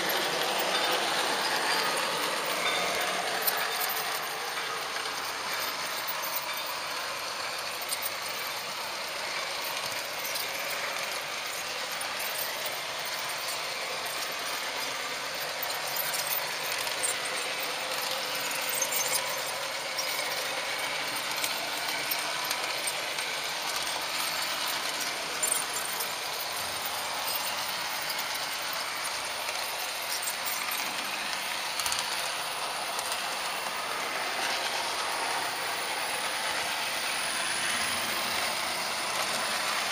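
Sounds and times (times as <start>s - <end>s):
model train motor whirring: 0.0s - 39.9s
wheels clicking on track: 0.0s - 39.9s.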